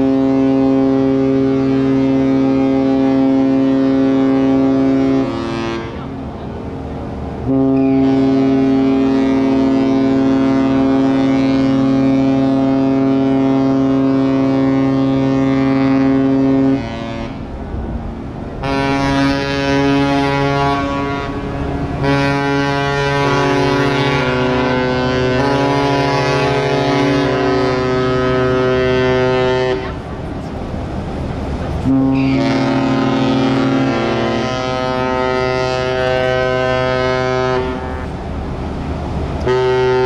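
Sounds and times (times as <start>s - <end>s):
ship's horn blasts: 0.0s - 40.0s.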